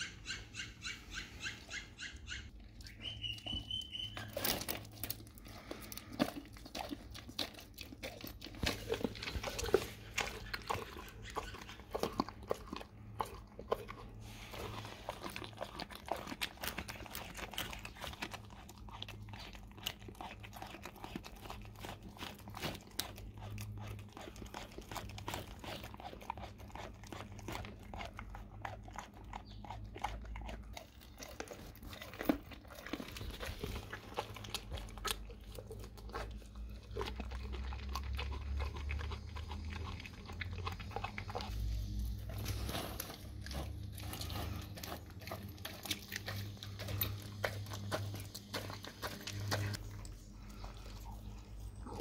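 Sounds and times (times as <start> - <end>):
dog chewing and gnawing: 0.0 - 52.0.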